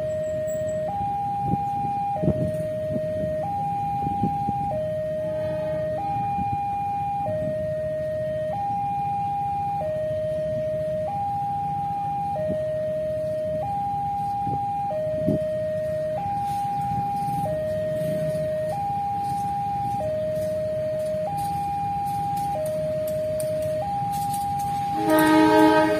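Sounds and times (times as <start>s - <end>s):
two-tone crossing alarm: 0.0s - 25.9s.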